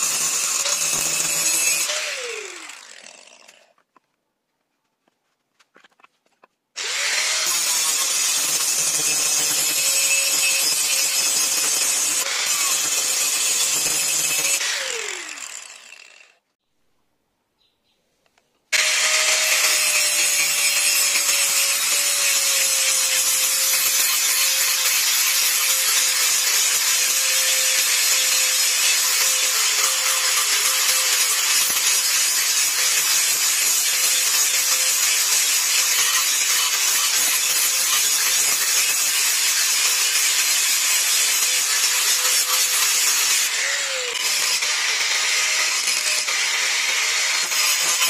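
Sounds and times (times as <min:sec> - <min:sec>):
grinder winding down: 0:00.0 - 0:03.7, 0:06.8 - 0:16.4, 0:18.8 - 0:48.0
angle grinder grinding steel: 0:00.0 - 0:03.8, 0:06.8 - 0:16.4, 0:18.8 - 0:48.0.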